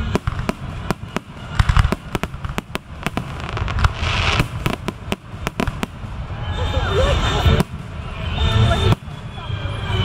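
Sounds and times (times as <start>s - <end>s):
fireworks bangs and cracks: 0.0s - 10.0s
low rumble: 0.0s - 10.0s.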